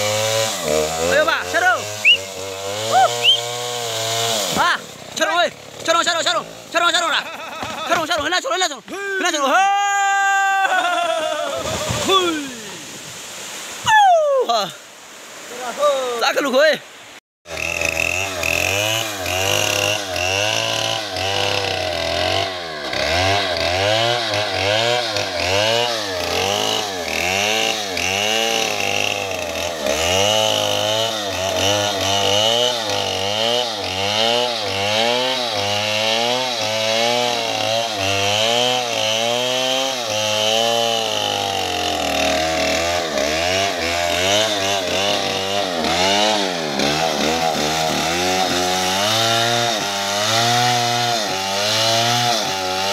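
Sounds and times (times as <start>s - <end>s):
chainsaw cutting log: 0.0s - 9.4s, 10.8s - 13.3s, 17.5s - 52.9s.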